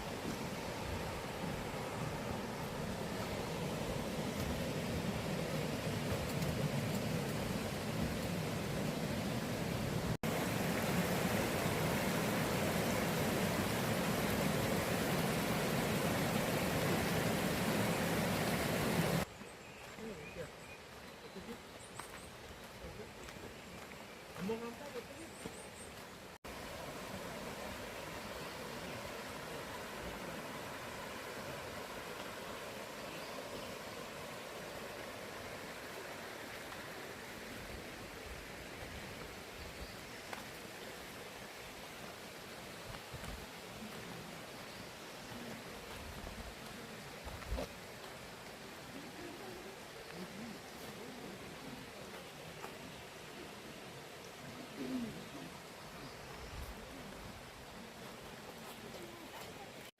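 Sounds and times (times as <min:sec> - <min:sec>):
stream water rushing: 0:00.0 - 0:19.3, 0:20.8 - 0:59.9.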